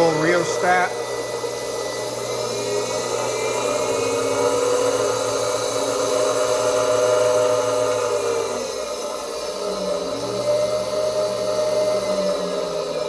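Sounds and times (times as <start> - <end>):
belt grinder motor whine: 0.0 - 13.0.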